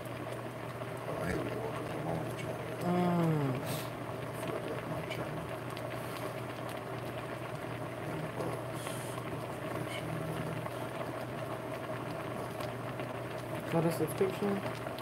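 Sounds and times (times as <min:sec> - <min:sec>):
liquid bubbling at rolling boil: 0:00.0 - 0:15.0
steady low hum: 0:00.0 - 0:15.0.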